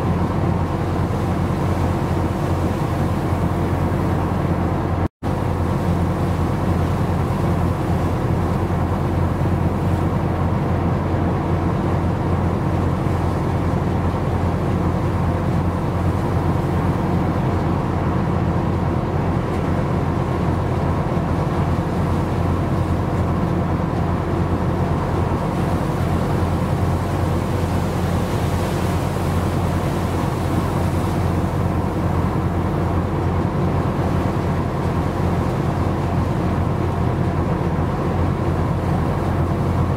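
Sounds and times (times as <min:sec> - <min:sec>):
ship engine hum: 0:00.0 - 0:39.9.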